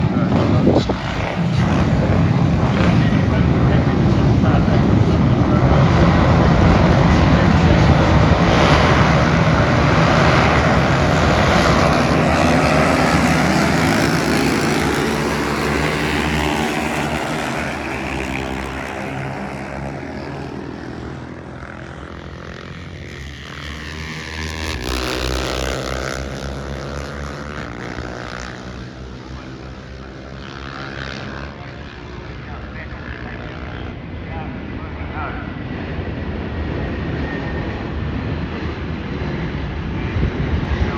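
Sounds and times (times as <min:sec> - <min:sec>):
engine passing by: 0:00.0 - 0:34.7.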